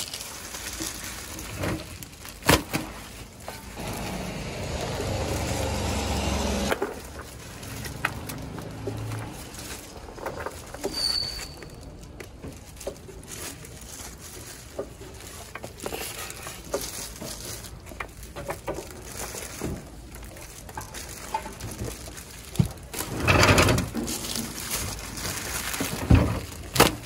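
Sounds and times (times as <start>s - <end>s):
plastic gloves rustling: 0.0s - 27.0s.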